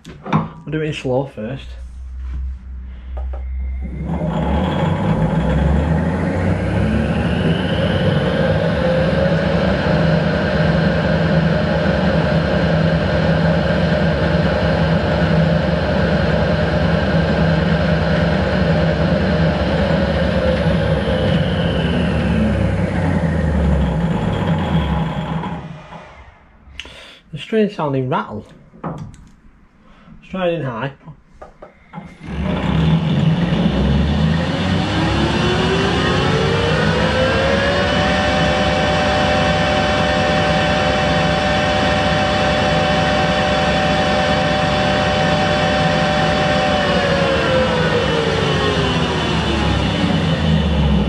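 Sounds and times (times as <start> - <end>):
lathe spindle whine: 2.1 - 26.6, 31.6 - 51.0.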